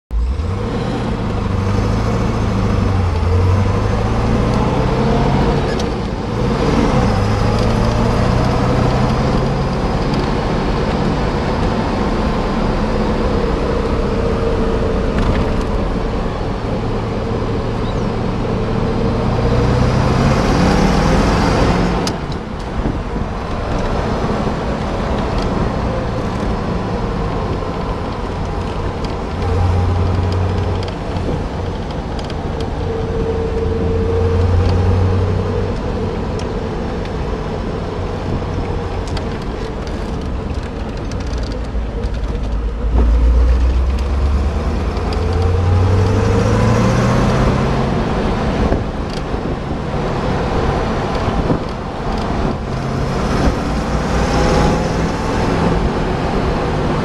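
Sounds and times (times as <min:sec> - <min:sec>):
car engine running: 0:00.1 - 0:57.0
road noise: 0:00.1 - 0:57.0.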